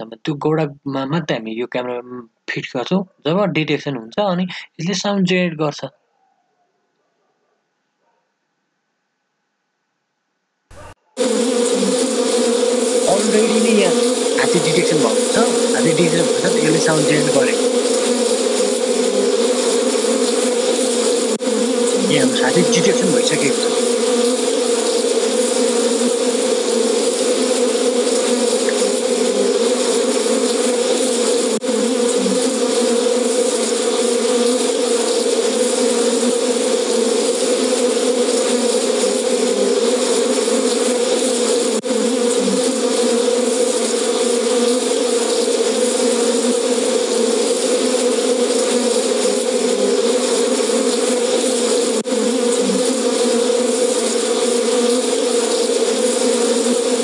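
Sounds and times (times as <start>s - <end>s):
bees buzzing: 0.0s - 1.7s, 10.7s - 57.0s.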